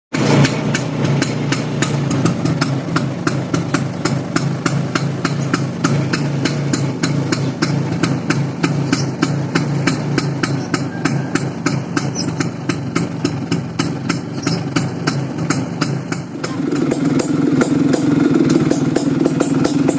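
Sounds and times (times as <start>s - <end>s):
scooter engine idling: 0.1s - 19.9s.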